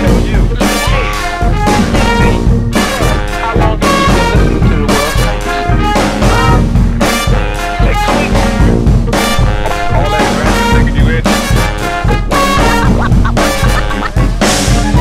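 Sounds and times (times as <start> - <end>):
steady drum beat: 0.0 - 15.0
upbeat brass music: 0.0 - 15.0.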